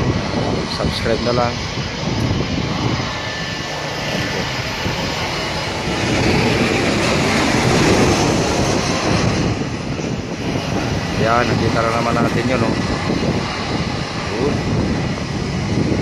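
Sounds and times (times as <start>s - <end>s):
jet airliner passing overhead: 0.0s - 16.0s.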